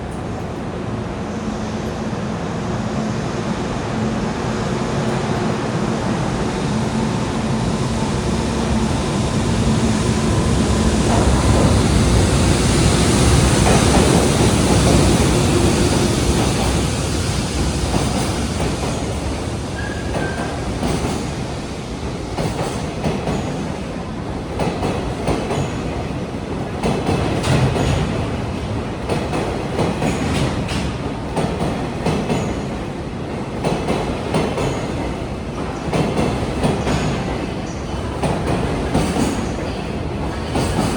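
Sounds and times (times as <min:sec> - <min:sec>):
freight train passing: 0:00.0 - 0:40.9.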